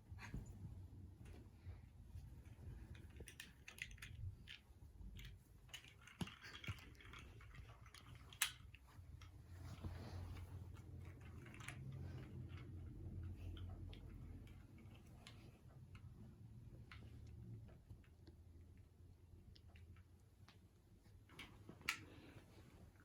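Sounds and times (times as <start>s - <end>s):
soft rustles: 0.0s - 18.9s, 19.8s - 23.0s.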